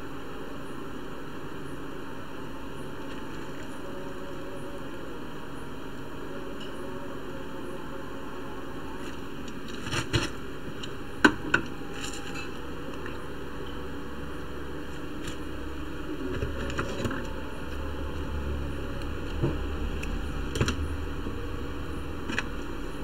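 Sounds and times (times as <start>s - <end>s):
background hiss and hum: 0.0s - 23.0s.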